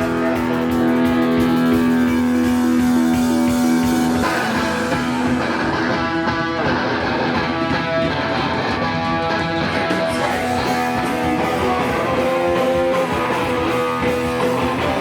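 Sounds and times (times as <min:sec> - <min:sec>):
electric guitar playing: 0:00.0 - 0:15.0
live band music: 0:00.0 - 0:15.0.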